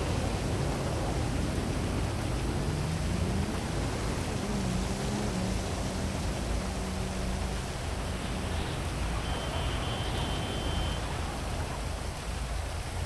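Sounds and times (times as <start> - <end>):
heavy rain falling: 0.0 - 13.0
traffic hum: 0.0 - 13.0.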